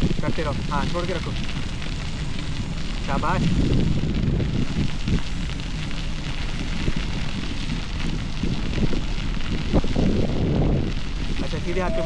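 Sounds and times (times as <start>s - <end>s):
bicycle tyres crunching on gravel: 0.0s - 12.0s
wind rumbling on microphone: 0.0s - 12.0s.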